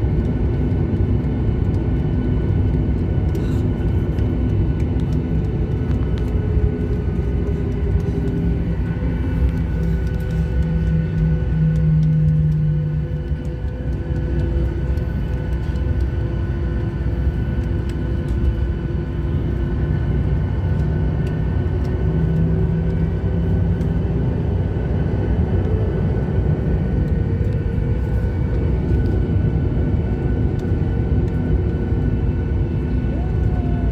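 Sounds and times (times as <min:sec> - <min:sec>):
airliner engines rumbling: 0:00.0 - 0:33.9
steady engine tones: 0:00.0 - 0:33.9.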